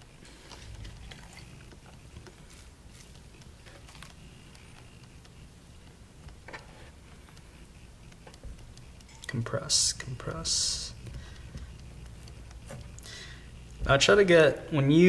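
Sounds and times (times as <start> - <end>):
low steady room hum: 0.0 - 15.0.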